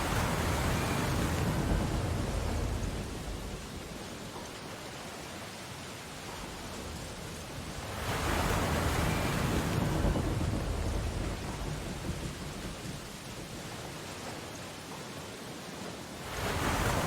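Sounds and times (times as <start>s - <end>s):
ocean waves washing: 0.0s - 17.0s.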